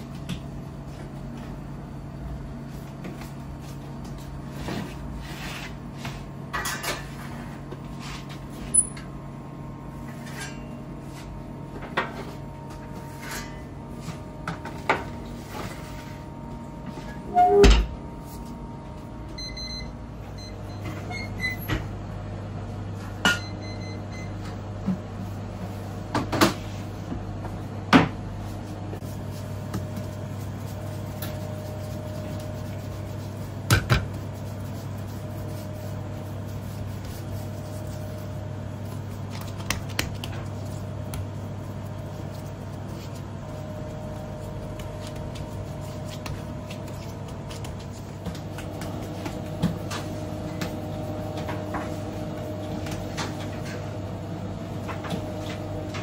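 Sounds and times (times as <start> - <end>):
kitchen equipment hum: 0.0 - 56.0.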